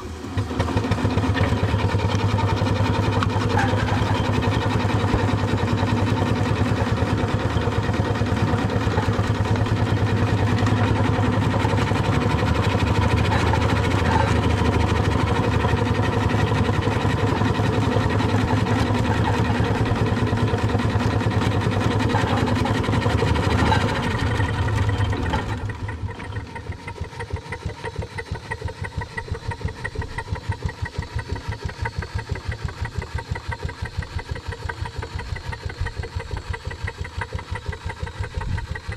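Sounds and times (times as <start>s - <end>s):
steam engine beat: 0.1s - 38.9s.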